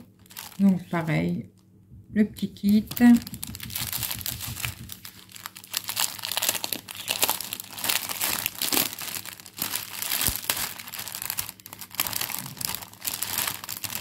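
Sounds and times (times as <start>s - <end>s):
plastic packaging crinkling: 0.0s - 1.7s, 2.4s - 14.0s.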